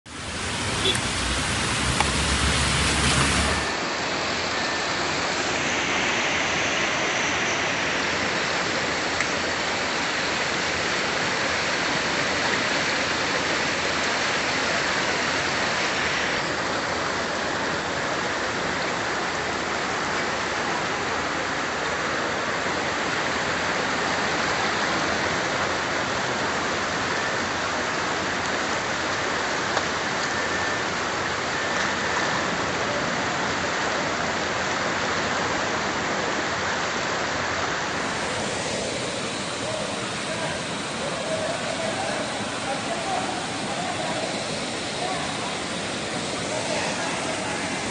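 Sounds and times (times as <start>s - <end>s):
floodwater rushing down a street: 0.1s - 47.9s
heavy rain on a road: 0.1s - 47.9s.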